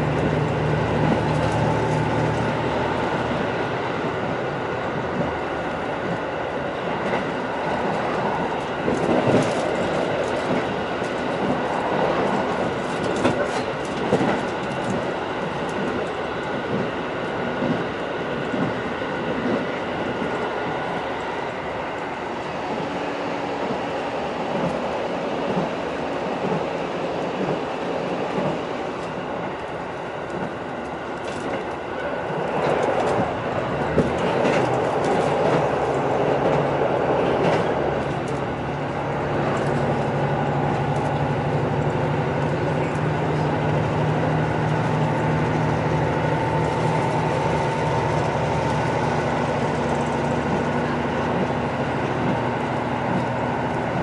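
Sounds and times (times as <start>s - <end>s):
low diesel drone: 0.0s - 54.0s
train wheels rumbling on rail: 0.0s - 54.0s.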